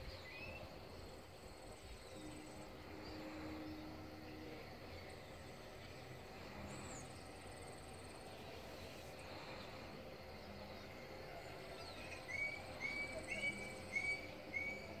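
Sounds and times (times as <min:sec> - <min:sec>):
high insect trills: 0:00.0 - 0:15.0.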